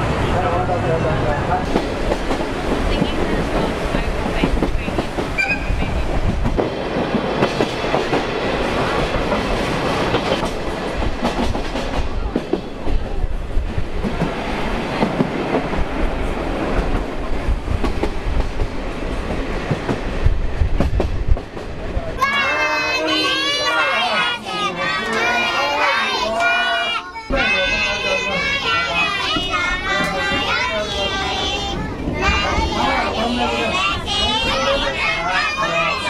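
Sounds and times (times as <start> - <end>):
train rumbling on rails: 0.0 - 36.0.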